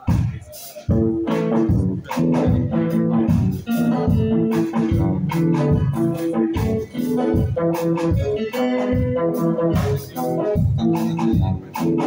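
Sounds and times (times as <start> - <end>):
reggae band playing: 0.0 - 12.0.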